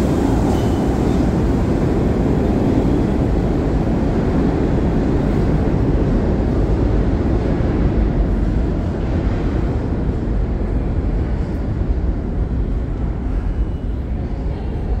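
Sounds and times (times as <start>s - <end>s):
low rumble on subway platform: 0.0s - 15.0s.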